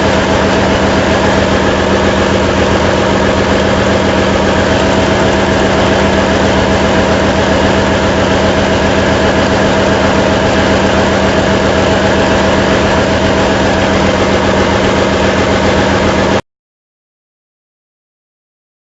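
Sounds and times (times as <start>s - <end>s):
generator machinery drone: 0.0s - 16.4s.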